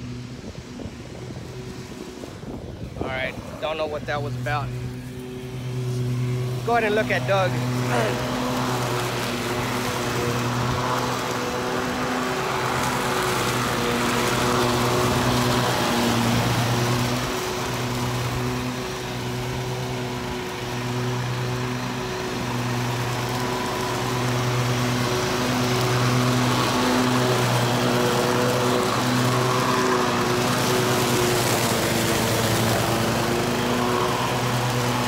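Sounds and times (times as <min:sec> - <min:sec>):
riding mower engine running: 0:00.0 - 0:35.0.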